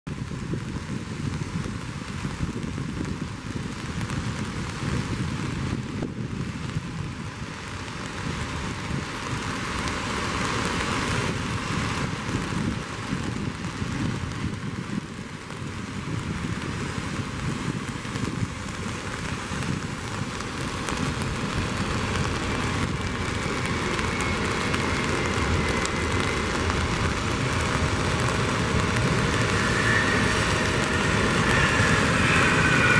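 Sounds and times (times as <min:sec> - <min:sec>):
rain: 0:00.0 - 0:32.9
wind: 0:00.0 - 0:32.9
high engine whine: 0:00.1 - 0:32.9
jet engines rumbling: 0:00.1 - 0:32.9.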